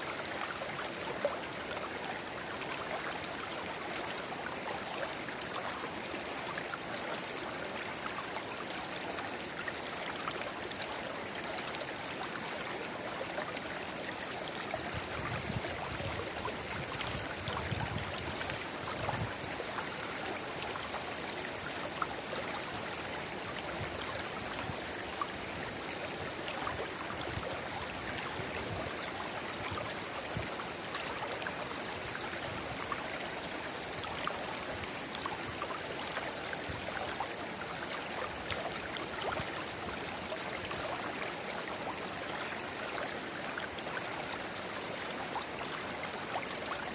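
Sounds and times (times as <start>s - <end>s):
river water babbling: 0.0s - 46.9s.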